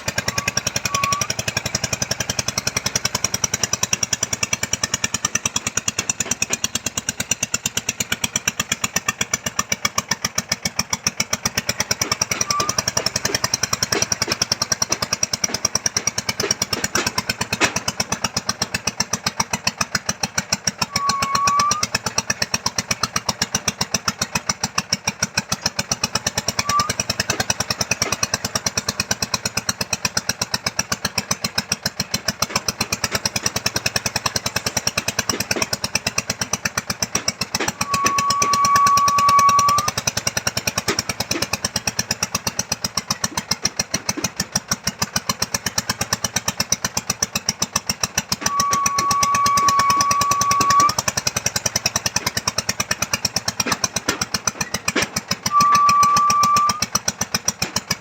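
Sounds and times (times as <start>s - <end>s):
earth auger engine drilling: 0.0s - 58.0s.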